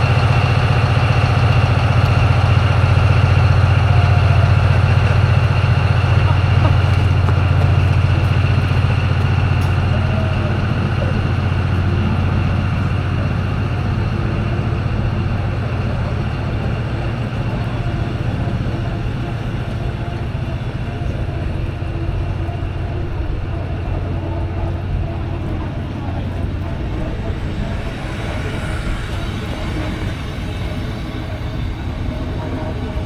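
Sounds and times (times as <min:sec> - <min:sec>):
locomotive deep hum: 0:00.0 - 0:33.0.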